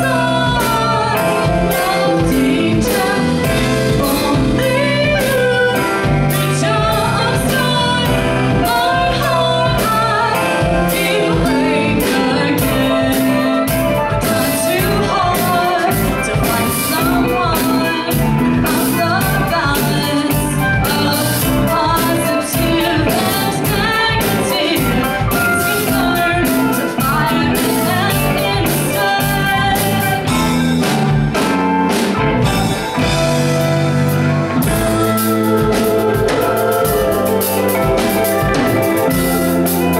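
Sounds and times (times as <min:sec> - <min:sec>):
woman singing: 0:00.0 - 0:30.9, 0:34.6 - 0:39.9
bass guitar: 0:00.0 - 0:39.9
drum beats: 0:00.0 - 0:39.9
electric guitar: 0:00.0 - 0:39.9
keyboard: 0:00.0 - 0:39.9.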